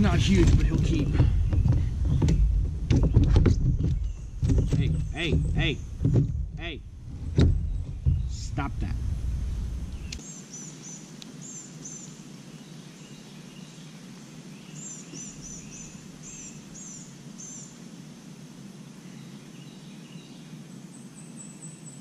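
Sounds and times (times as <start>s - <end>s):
low outdoor background noise: 0.0s - 22.0s
songbirds singing: 0.0s - 22.0s.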